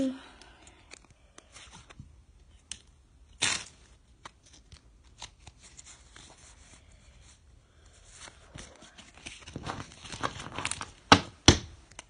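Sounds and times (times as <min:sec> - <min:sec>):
cards and packs rustling: 0:00.4 - 0:12.0.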